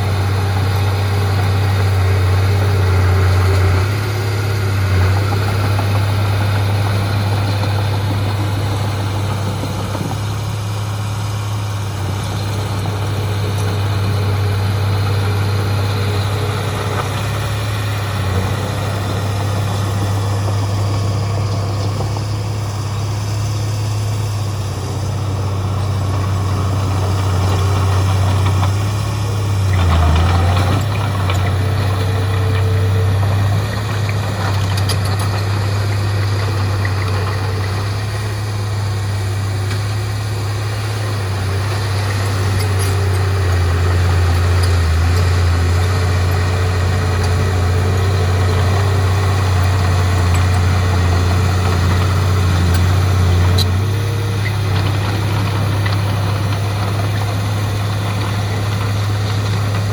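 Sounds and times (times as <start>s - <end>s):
heavy diesel engine droning: 0.0s - 59.9s.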